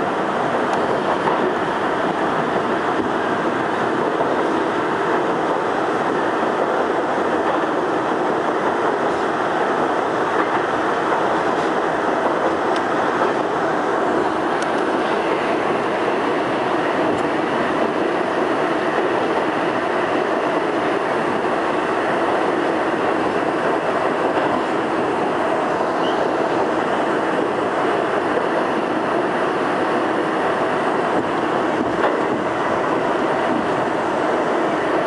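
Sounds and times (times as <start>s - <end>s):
subway train wheels on rail: 0.0s - 35.0s.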